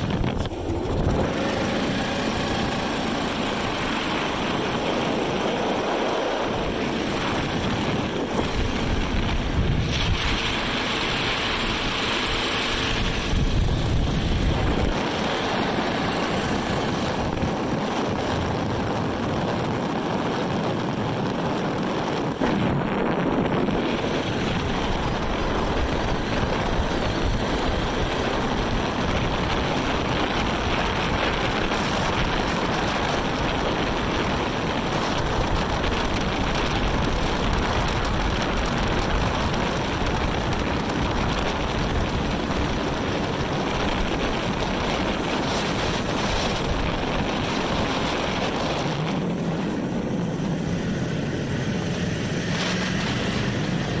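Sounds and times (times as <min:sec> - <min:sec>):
boat engine running: 0:00.0 - 0:54.0
wind noise: 0:00.0 - 0:54.0.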